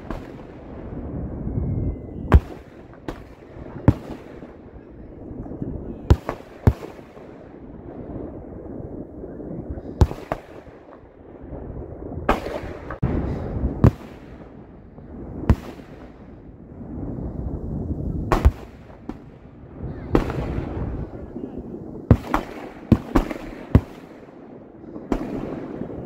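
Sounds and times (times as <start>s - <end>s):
fireworks bangs: 0.0s - 26.0s
rumbling and crackling: 0.0s - 26.0s.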